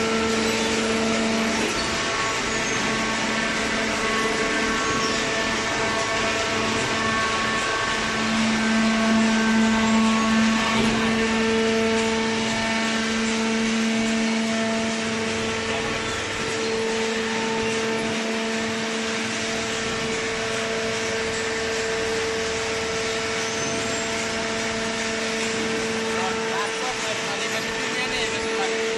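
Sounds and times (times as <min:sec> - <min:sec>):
baler motor and pump whine: 0:00.0 - 0:28.9.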